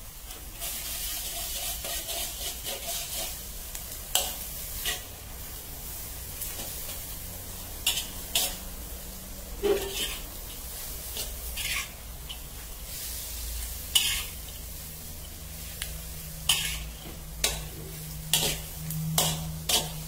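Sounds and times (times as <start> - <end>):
food sizzling: 0.0 - 20.0
metal spatula scraping wok: 0.3 - 20.0.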